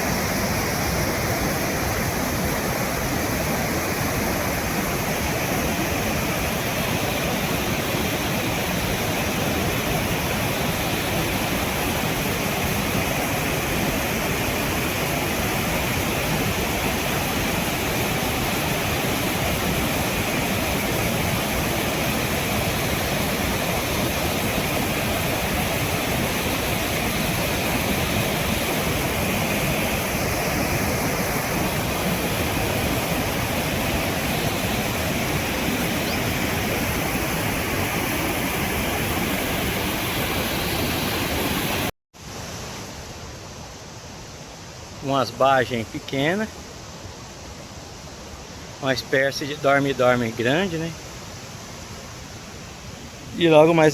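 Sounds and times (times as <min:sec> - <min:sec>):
waterfall rushing: 0:00.0 - 0:43.4, 0:44.6 - 0:53.9.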